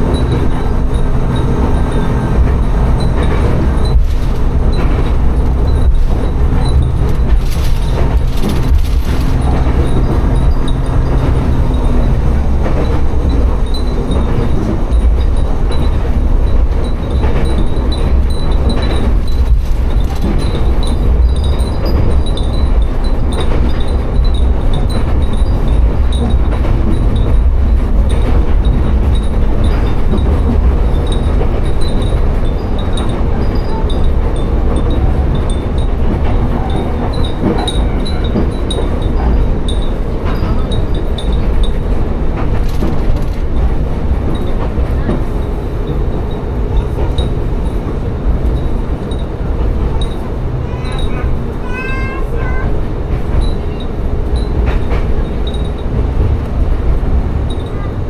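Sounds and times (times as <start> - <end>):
diesel railcar rumble: 0.0 - 58.0.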